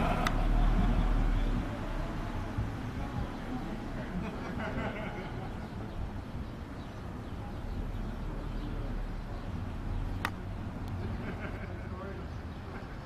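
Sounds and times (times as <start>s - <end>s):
faint talking of people: 0.0s - 13.0s.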